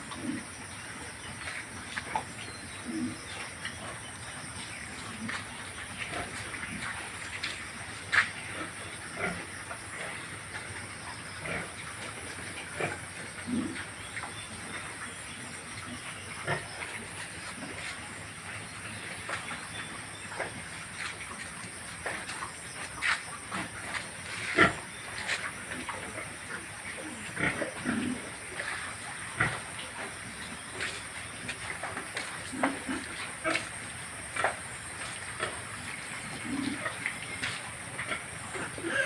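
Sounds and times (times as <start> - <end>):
pigs grunting: 0.0 - 39.0.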